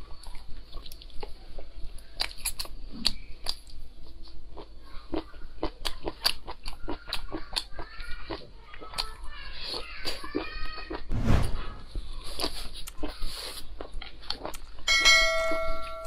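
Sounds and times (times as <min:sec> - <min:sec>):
chewing and crunching food: 0:00.0 - 0:11.1, 0:12.0 - 0:14.9.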